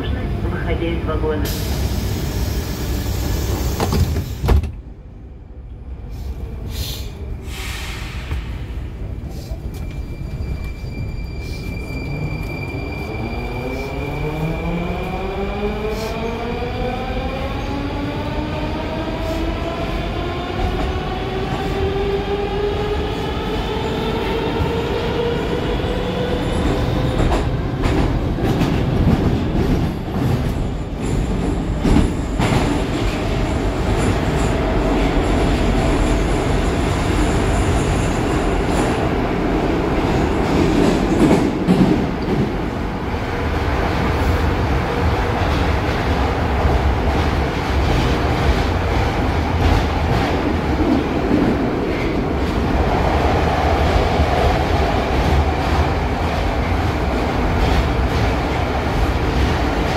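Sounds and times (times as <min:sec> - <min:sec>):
train wheels on rail: 0:01.4 - 0:04.8, 0:06.0 - 0:59.9.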